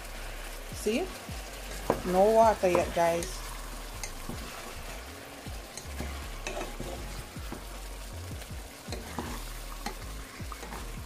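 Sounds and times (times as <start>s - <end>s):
chicken sizzling in a pan: 0.0s - 11.0s
wooden spatula stirring: 1.4s - 11.0s.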